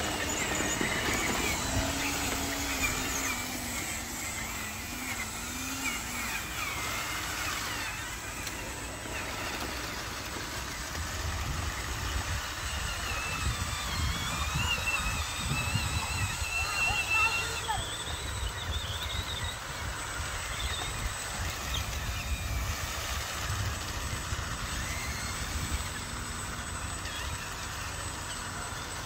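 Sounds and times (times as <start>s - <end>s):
model truck motor hum: 0.0s - 29.0s.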